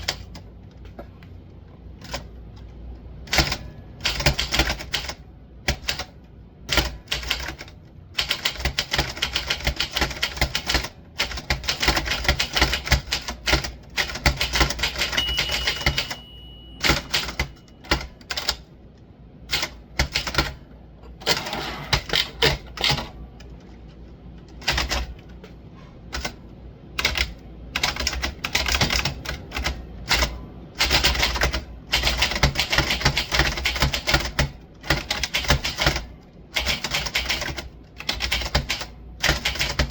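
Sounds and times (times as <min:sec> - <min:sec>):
typewriter keystrokes: 0:00.0 - 0:00.5, 0:02.0 - 0:18.7, 0:19.5 - 0:20.6, 0:21.2 - 0:23.7, 0:24.4 - 0:25.5, 0:26.1 - 0:26.4, 0:27.0 - 0:39.9.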